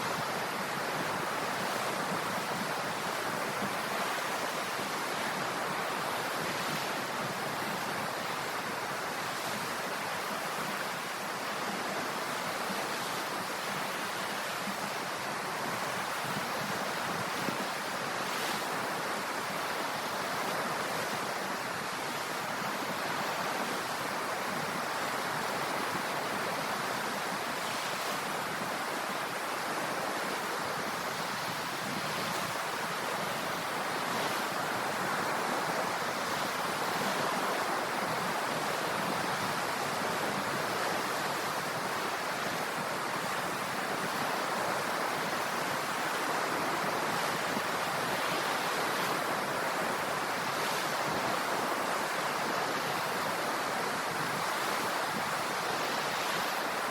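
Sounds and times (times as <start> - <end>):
ocean surf: 0.0 - 56.9.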